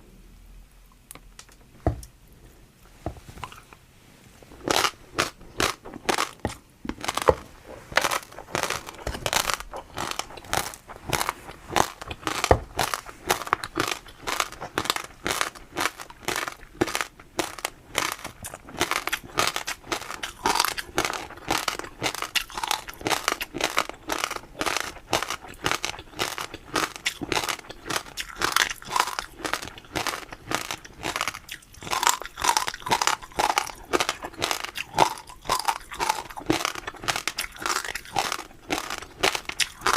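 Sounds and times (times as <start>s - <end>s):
crunching and chewing crisp food: 4.4s - 39.9s.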